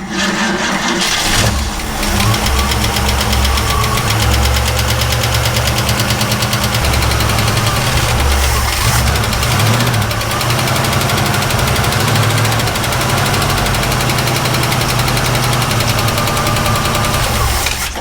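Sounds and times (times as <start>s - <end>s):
car engine idling: 0.0s - 18.0s
engine valve ticking: 0.0s - 18.0s.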